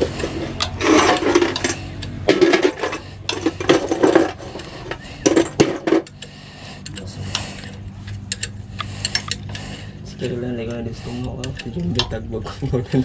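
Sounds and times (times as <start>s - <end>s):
steady low hum: 0.0s - 13.0s
wrench scraping: 0.0s - 13.0s.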